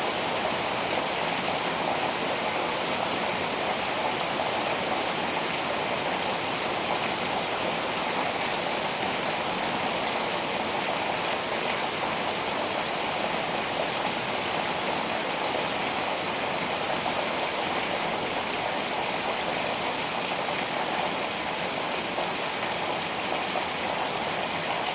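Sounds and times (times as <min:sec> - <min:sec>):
steady rainfall: 0:00.0 - 0:24.9.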